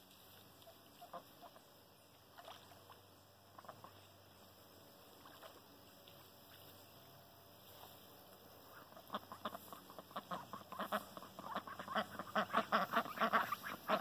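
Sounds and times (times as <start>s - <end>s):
ducks quacking faintly: 0.0s - 14.0s
low steady hiss: 0.0s - 14.0s.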